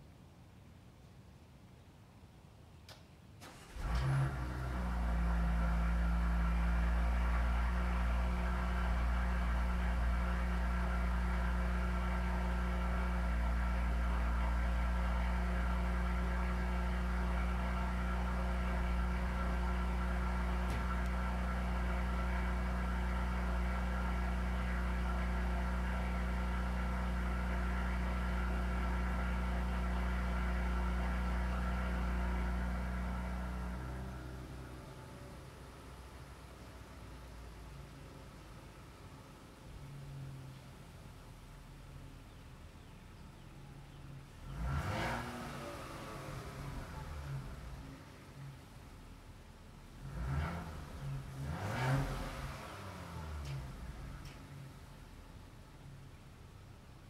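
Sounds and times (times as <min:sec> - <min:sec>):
car engine starting and idling: 0:02.9 - 0:57.0.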